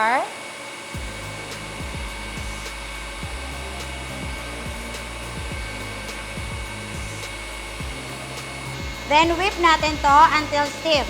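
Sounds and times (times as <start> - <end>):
electric mixer running: 0.0 - 11.0
background music with beat: 1.0 - 11.0.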